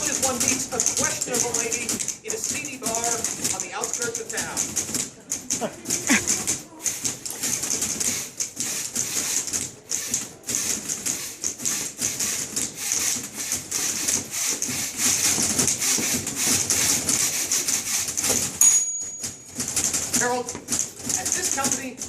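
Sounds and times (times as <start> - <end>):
typewriter keystrokes clattering: 0.0 - 22.0.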